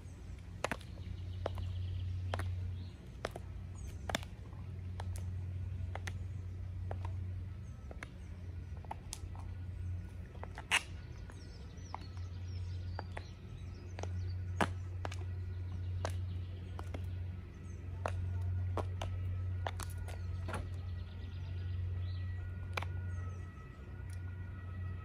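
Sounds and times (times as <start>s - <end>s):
birds chirping faintly: 0.0s - 25.0s
high heels clicking on stone: 0.4s - 20.9s.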